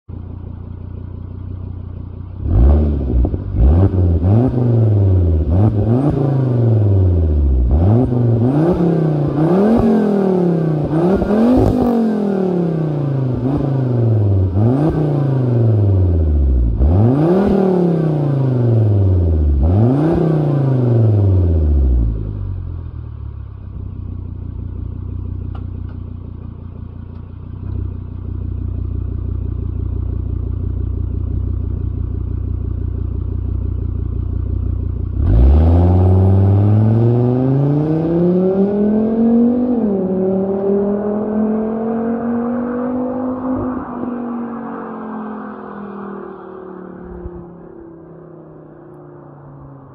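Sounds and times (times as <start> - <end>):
car engine revving: 2.3 - 22.8, 26.5 - 49.9.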